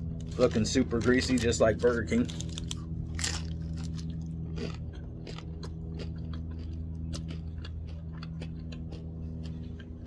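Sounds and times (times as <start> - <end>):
crispy food being chewed: 0.0 - 10.0
low electrical hum: 0.0 - 10.0.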